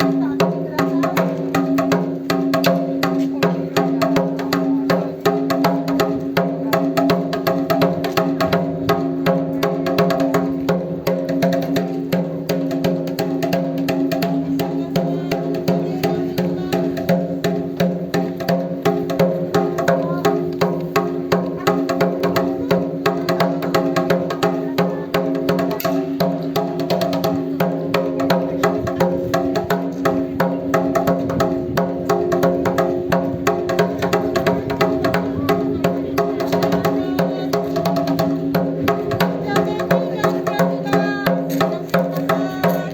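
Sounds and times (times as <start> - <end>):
taiko drums beating: 0.0 - 42.9.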